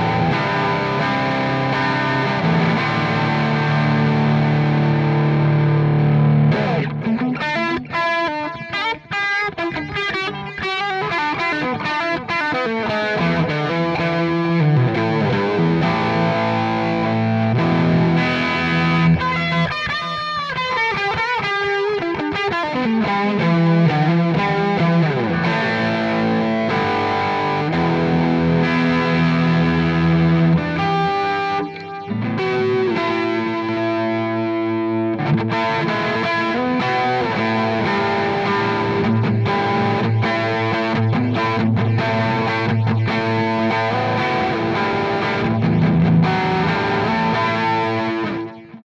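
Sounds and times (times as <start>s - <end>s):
electric guitar with delay: 0.0s - 48.8s.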